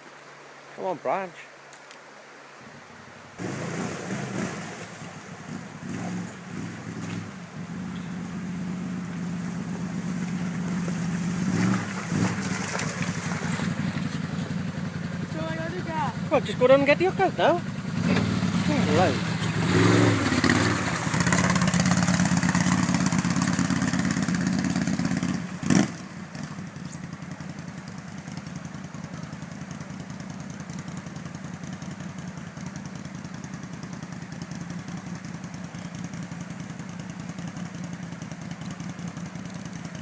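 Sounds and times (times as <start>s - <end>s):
quad bike engine running: 3.4s - 40.0s.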